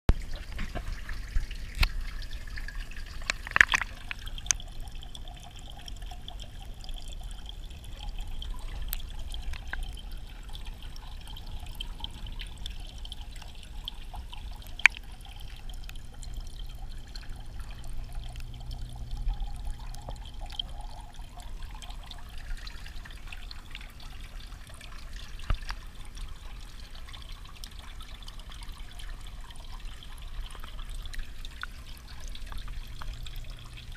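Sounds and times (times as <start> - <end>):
water trickling underwater: 0.1 - 33.9.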